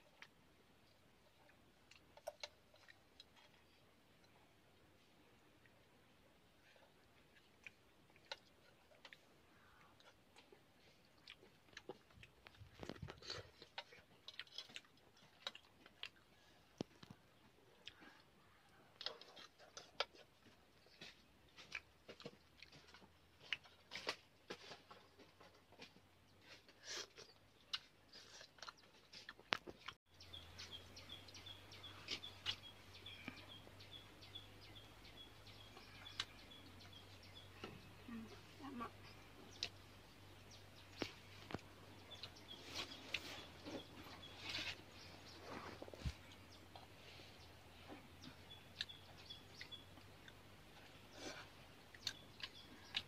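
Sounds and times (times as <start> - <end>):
person chewing food: 0.0 - 5.8, 6.4 - 53.0.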